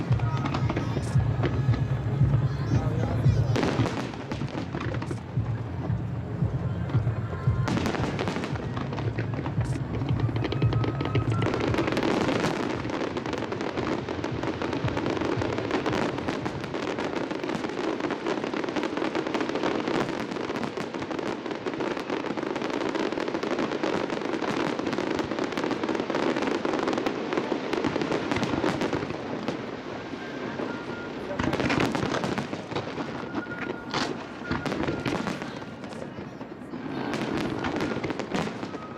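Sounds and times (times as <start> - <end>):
fireworks bursts and crackles: 0.0 - 38.9.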